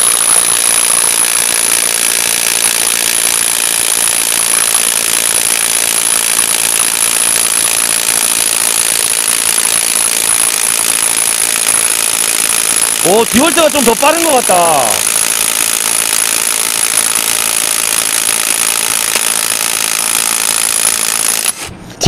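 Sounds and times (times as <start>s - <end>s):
impact wrench hammering: 0.0s - 21.7s.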